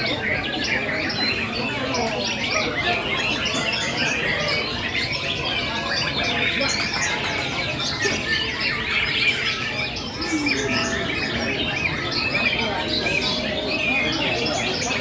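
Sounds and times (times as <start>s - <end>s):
caged birds singing: 0.0s - 15.0s.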